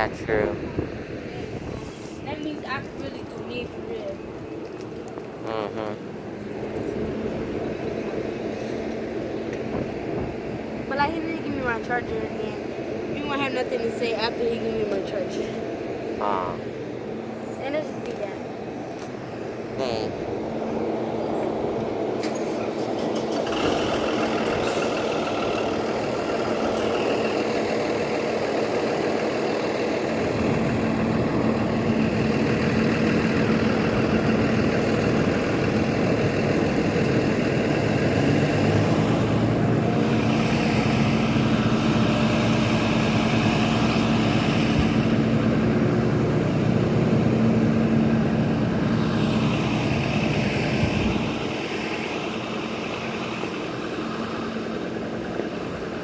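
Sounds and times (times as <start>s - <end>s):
large vehicle engine running: 0.0s - 56.0s.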